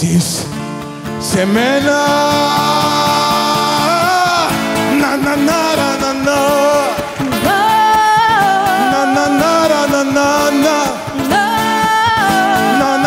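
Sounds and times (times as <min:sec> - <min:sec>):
acoustic guitar strumming: 0:00.0 - 0:13.0
man and woman singing: 0:01.2 - 0:13.0.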